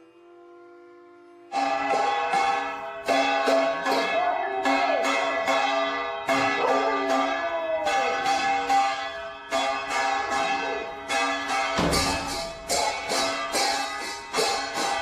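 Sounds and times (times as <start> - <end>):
temple bell ringing: 1.4 - 15.0.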